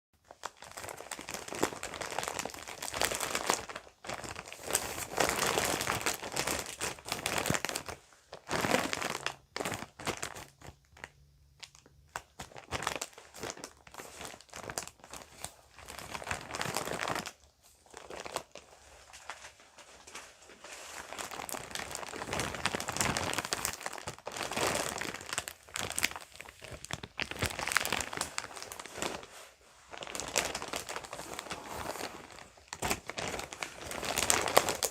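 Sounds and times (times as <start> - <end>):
bag crinkling and rustling: 0.2 - 34.9.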